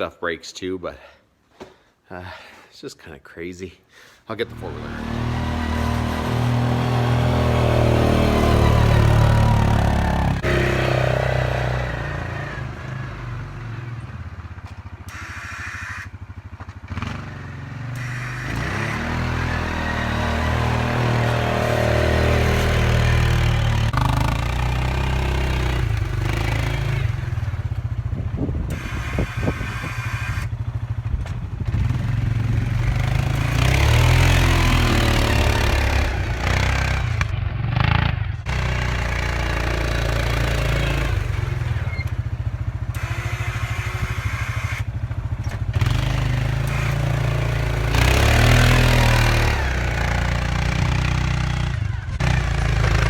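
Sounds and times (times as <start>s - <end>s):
atv engine running: 4.4s - 53.0s.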